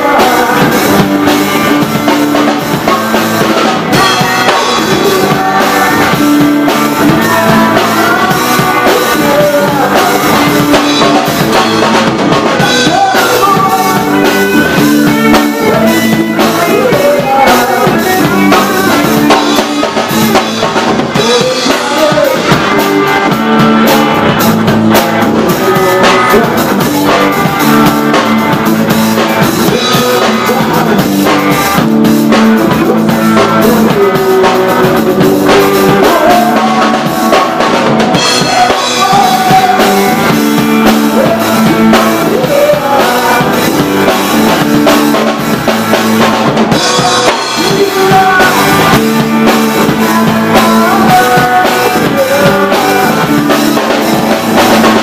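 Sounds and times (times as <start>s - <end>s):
drums beating: 0.0s - 55.0s
electric guitar: 0.0s - 55.0s
man singing into a microphone: 0.0s - 55.0s.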